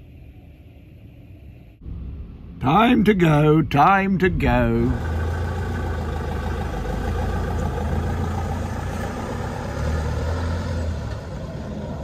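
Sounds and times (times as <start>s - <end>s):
diesel van engine running: 1.8s - 12.0s.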